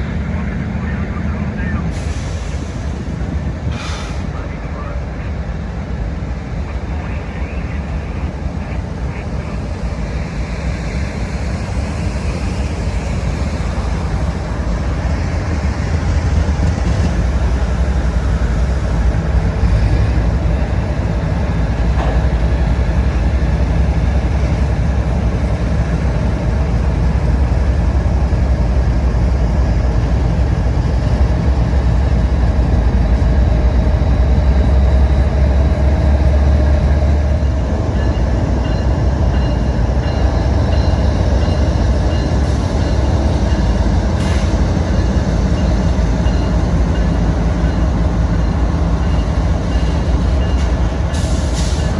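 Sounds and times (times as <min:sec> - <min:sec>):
freight train rumbling past: 0:00.0 - 0:51.9.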